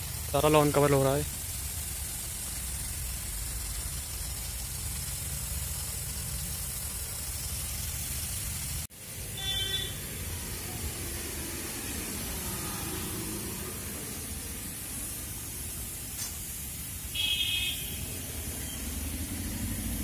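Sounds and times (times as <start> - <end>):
sprinkler spraying water: 0.0 - 20.0.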